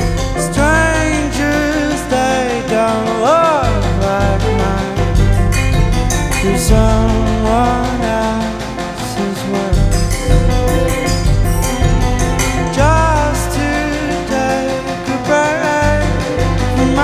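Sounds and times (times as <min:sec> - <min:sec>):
bass: 0:00.0 - 0:17.0
steady beat: 0:00.0 - 0:17.0
sung vocal with sliding notes: 0:00.0 - 0:17.0.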